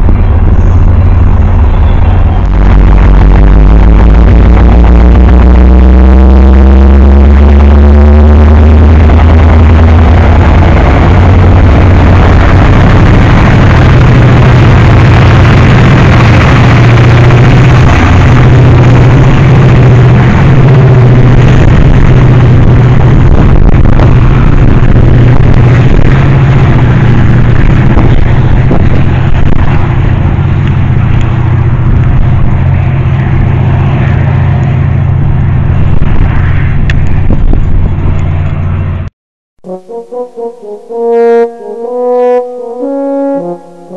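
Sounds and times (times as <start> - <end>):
diesel locomotive engine drone: 0.0 - 43.9.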